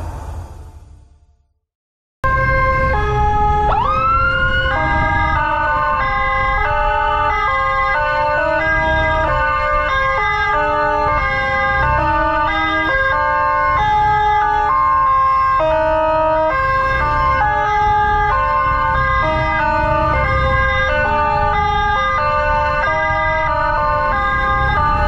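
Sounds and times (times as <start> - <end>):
electronic emergency sirens: 2.2 - 25.0
engine and traffic rumble: 2.2 - 25.0.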